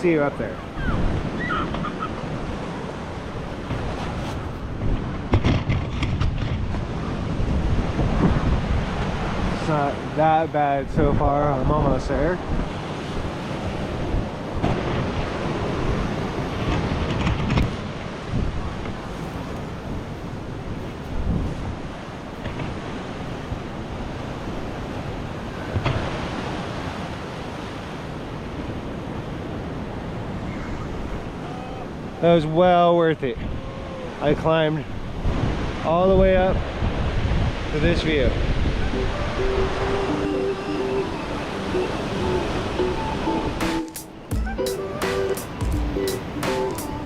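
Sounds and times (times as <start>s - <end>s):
wind buffeting microphone: 0.0s - 32.3s, 33.2s - 47.0s
ocean surf: 0.0s - 47.0s.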